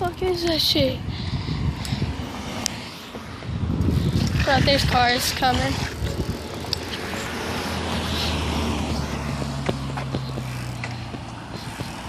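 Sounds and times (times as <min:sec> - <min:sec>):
passing car traffic: 0:00.0 - 0:12.0.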